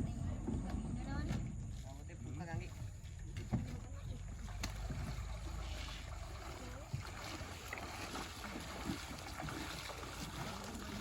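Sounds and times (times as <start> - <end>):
boat moving through water: 0.0 - 11.0.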